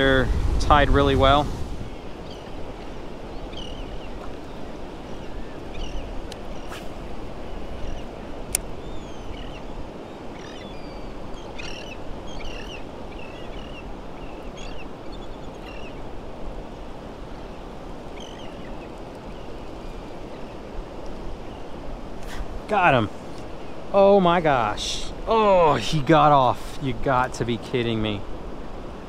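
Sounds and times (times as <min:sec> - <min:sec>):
birds chirping: 0:00.0 - 0:29.0
water rushing: 0:00.0 - 0:29.0
wind: 0:00.0 - 0:29.0.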